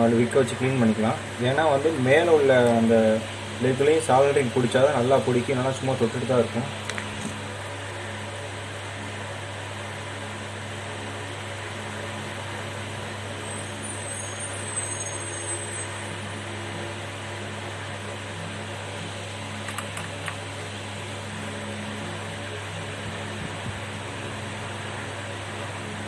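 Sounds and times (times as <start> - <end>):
electric fan whirring: 0.0 - 26.0
low electrical hum: 0.0 - 26.0.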